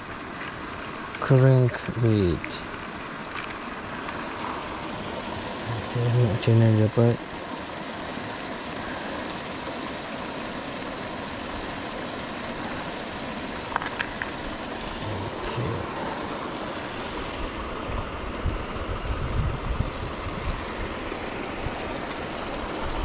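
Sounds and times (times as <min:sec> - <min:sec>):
paddlewheel aerator churning water: 0:00.0 - 0:23.0.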